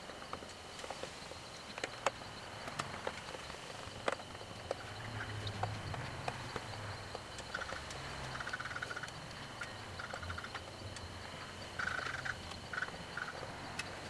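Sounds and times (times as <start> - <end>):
rapid light clicking: 0.0 - 14.0.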